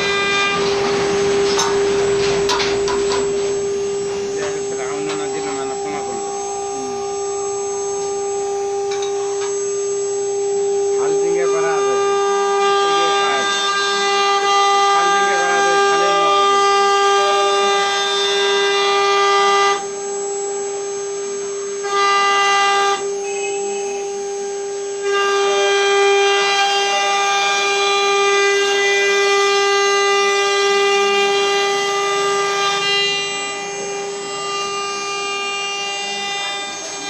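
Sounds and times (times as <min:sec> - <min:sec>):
router spindle high-pitched whine: 0:00.0 - 0:37.0.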